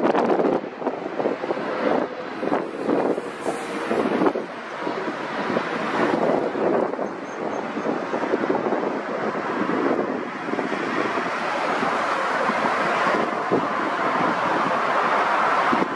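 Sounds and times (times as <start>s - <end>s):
jet engine passing low: 0.0s - 15.9s
wind buffeting microphone: 0.0s - 15.9s.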